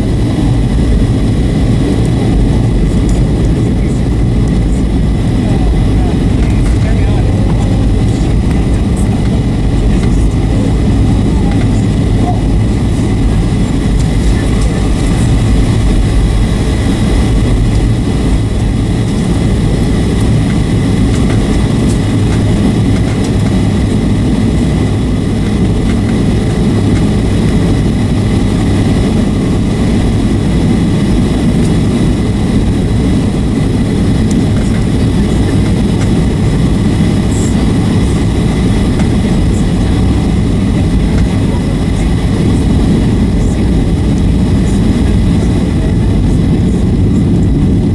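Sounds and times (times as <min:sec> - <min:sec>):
faint steady whines: 0:00.0 - 0:47.9
jet engine cabin rumble: 0:00.0 - 0:47.9.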